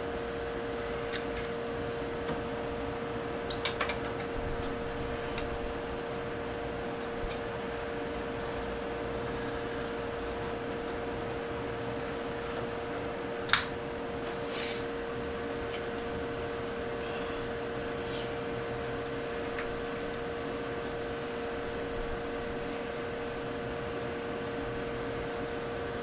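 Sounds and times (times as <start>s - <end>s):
machine hum with held tone: 0.0s - 26.0s.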